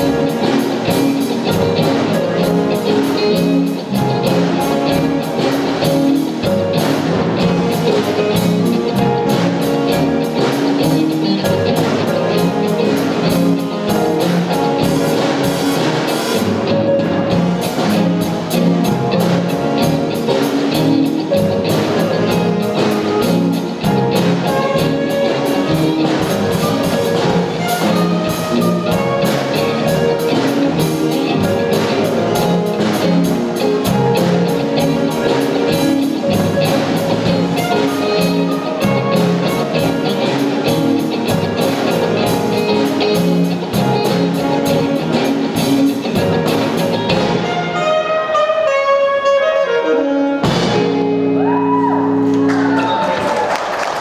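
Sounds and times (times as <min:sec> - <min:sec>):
drum kit hi-hat groove: 0:00.0 - 0:47.6
electric bass solo: 0:00.0 - 0:53.1.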